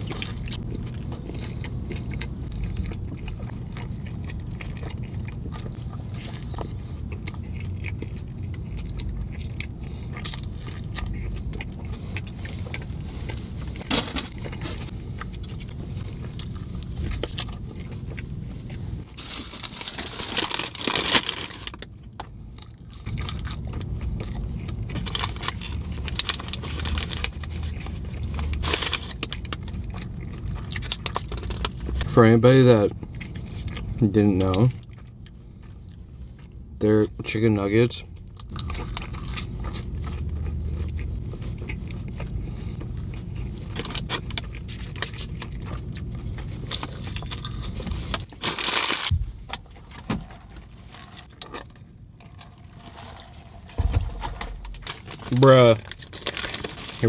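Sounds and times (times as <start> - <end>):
person chewing and biting: 0.0 - 32.1, 32.9 - 36.8, 38.2 - 49.7
steady low hum: 0.0 - 57.0.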